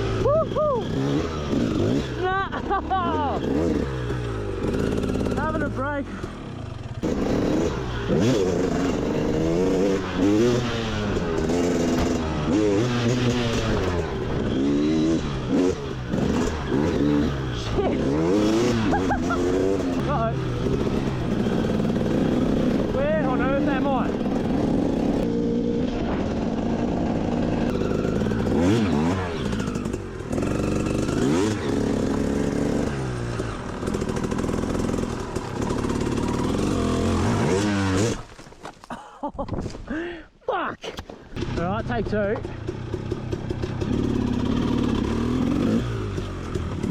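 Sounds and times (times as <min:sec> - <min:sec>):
motorbike engine revving: 0:00.0 - 0:38.4, 0:41.4 - 0:46.9.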